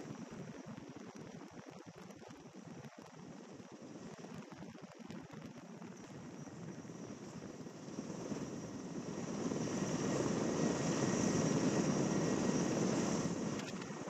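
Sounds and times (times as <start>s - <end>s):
helicopter running: 0.0s - 14.0s.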